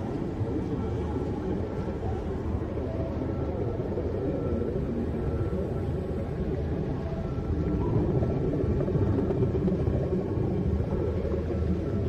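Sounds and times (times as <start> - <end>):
deep rumbling drone: 0.0 - 12.0.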